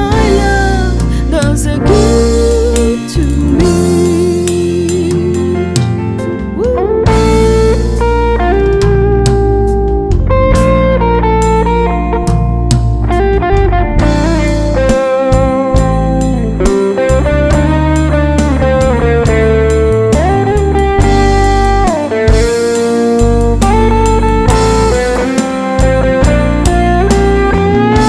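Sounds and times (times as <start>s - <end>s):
drums: 0.0s - 28.0s
electric guitar lead melody: 0.0s - 28.0s.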